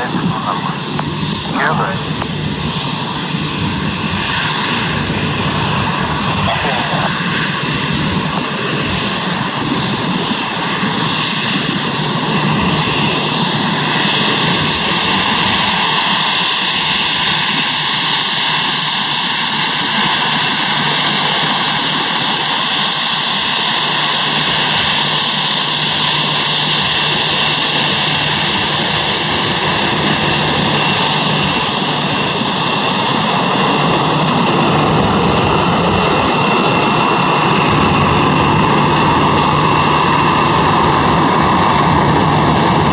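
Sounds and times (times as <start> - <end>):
jet engines whining at taxi: 0.0 - 42.9.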